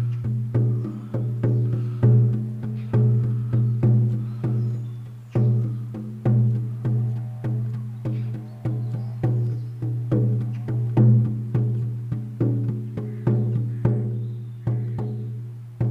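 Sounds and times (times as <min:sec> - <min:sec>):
frame drum beating: 0:00.0 - 0:15.9.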